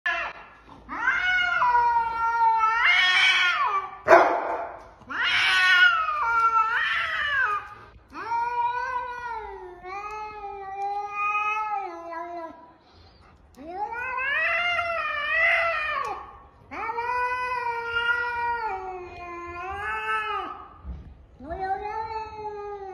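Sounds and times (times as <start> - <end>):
cat yowling: 0.1 - 4.2, 5.1 - 12.6, 13.6 - 20.6.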